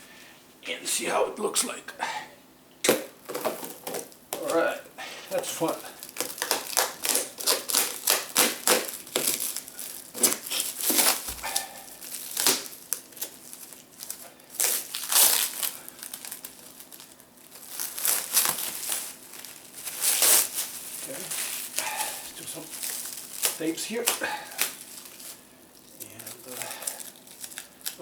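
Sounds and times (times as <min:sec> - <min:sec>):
plastic wrapping crinkling: 0:02.8 - 0:28.0.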